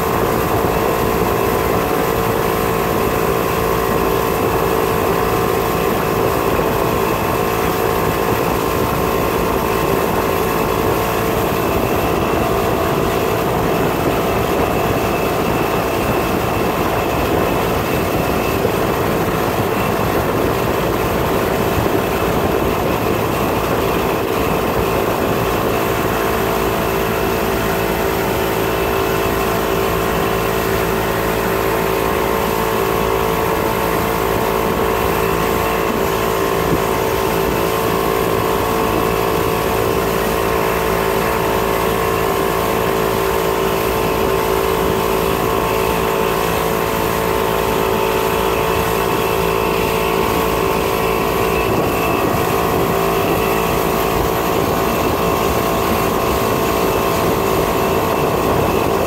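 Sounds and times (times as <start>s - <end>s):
churning boat wake: 0.0s - 59.0s
outboard motor running: 0.0s - 59.0s.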